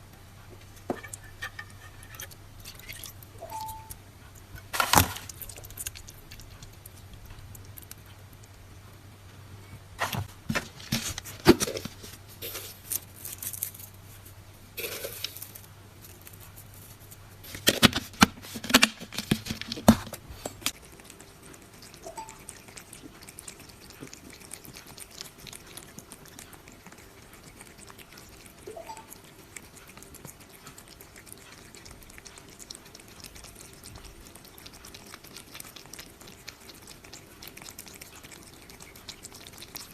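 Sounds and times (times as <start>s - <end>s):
cat eating wet food: 0.0s - 39.9s.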